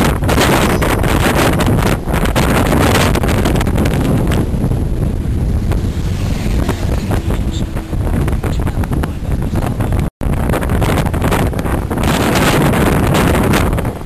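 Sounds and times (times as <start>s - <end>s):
vehicle rumble: 0.0s - 14.0s
wind buffeting microphone: 0.0s - 14.0s.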